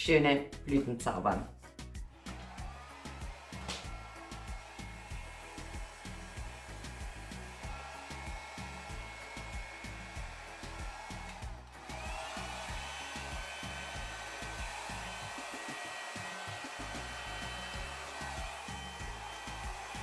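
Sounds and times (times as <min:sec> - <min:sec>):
hair dryer blowing: 0:02.2 - 0:20.0.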